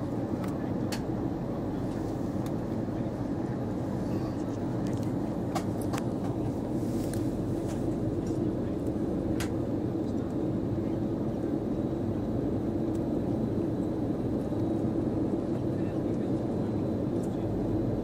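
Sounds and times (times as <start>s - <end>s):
airliner cabin drone: 0.0s - 18.0s.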